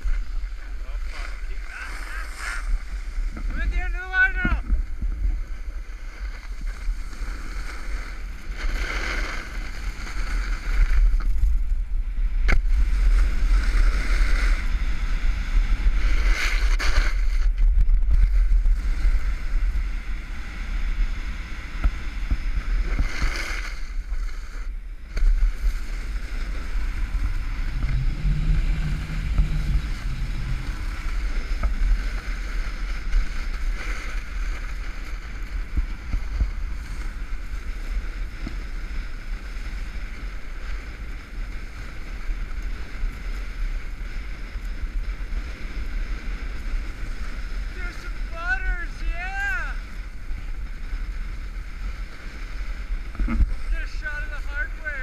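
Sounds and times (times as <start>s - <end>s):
ski edges carving snow: 0.0s - 55.0s
wind buffeting microphone: 0.0s - 55.0s.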